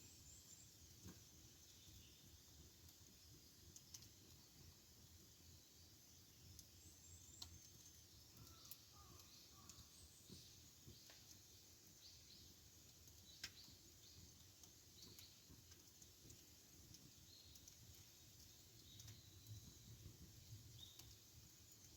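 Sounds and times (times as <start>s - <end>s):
wood fire crackling: 0.0s - 21.9s.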